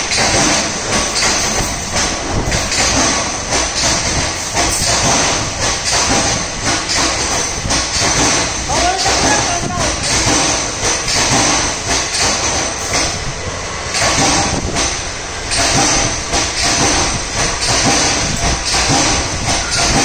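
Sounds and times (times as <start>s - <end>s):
hissing rumbling machine: 0.0s - 20.0s.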